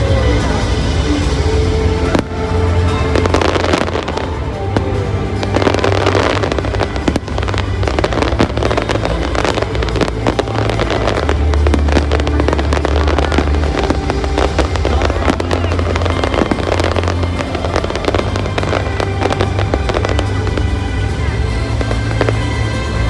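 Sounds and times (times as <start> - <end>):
fireworks exploding: 0.0 - 23.0
music playing: 0.0 - 23.0.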